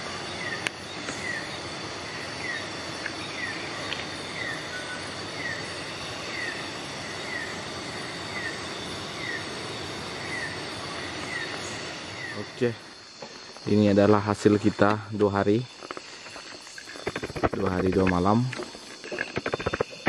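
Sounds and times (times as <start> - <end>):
night animal chirping: 0.0 - 13.3, 15.4 - 20.0
insect drone: 0.0 - 20.0
steady hiss: 0.0 - 20.0.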